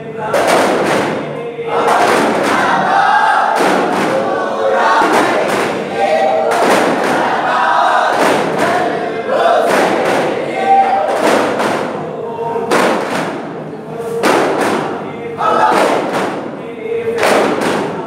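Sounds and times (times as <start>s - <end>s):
men chanting together: 0.0s - 18.0s
frame drums struck in unison: 0.3s - 12.1s, 12.7s - 16.6s, 17.2s - 18.0s.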